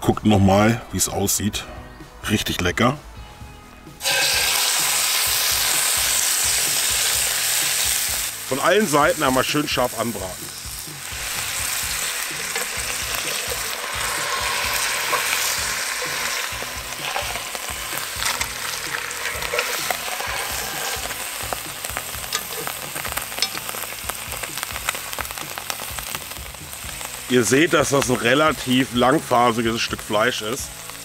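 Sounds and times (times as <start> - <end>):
meat sizzling in hot oil: 4.0 - 31.0.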